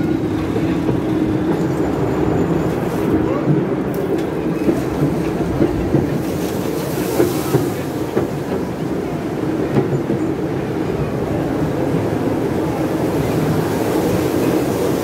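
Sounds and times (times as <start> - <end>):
train carriages rumbling: 0.0 - 15.0
wheels clicking on rails: 0.0 - 15.0.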